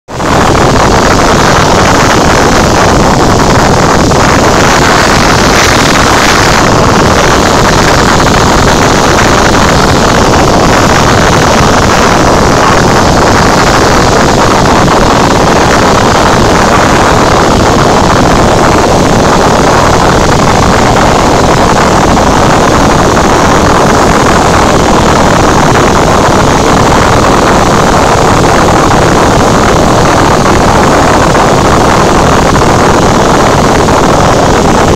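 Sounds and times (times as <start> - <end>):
propeller plane engine drone: 0.0 - 34.9.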